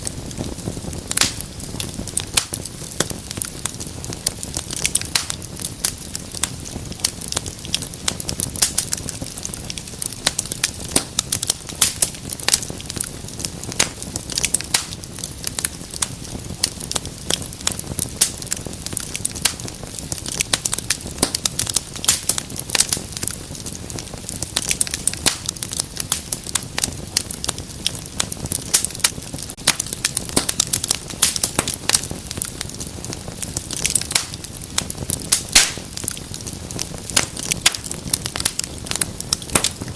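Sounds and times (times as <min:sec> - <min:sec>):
low rush of flame: 0:00.0 - 0:39.9
wood fire crackling and popping: 0:00.0 - 0:39.9.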